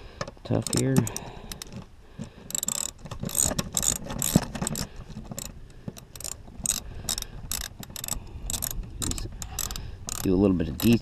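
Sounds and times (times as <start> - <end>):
socket ratchet clicking: 0.6 - 1.8, 2.5 - 11.0.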